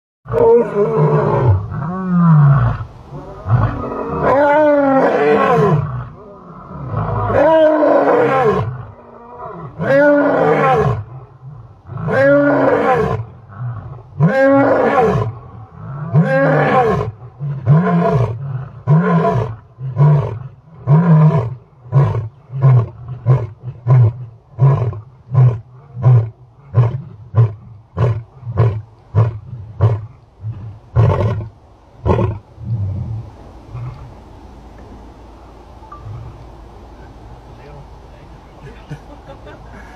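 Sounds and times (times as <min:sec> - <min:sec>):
lion roaring: 0:00.3 - 0:34.1.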